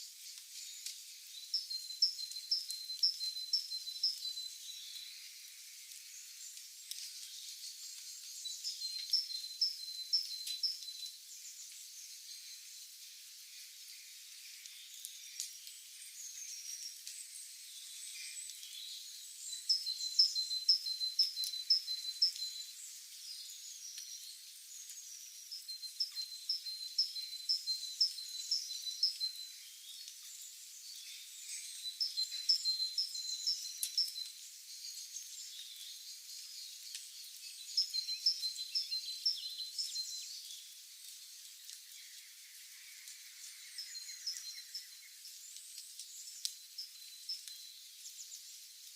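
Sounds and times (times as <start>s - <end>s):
faint high hiss: 0.0s - 48.9s
soft bird chirps: 0.0s - 48.9s.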